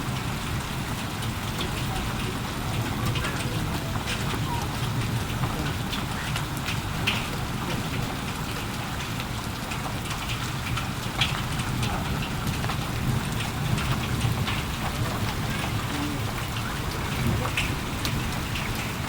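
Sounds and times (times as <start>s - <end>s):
heavy rain falling: 0.0s - 19.0s
raindrops ticking on a surface: 0.0s - 19.0s.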